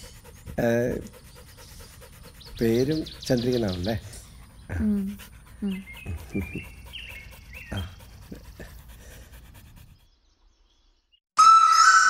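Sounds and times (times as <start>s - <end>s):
dog panting: 0.0s - 10.1s.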